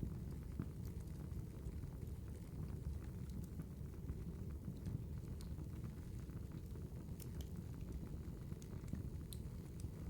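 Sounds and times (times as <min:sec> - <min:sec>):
fire crackling and popping: 0:00.0 - 0:10.0
low rumble of flames: 0:00.0 - 0:10.0.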